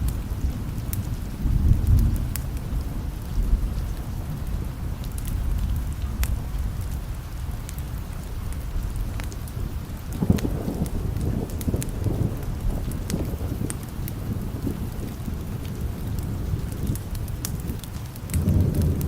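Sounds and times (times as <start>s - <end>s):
rumbling thunder: 0.0s - 7.7s, 8.6s - 19.0s
sharp ticks of raindrops: 0.0s - 19.0s
steady rain: 0.0s - 19.0s.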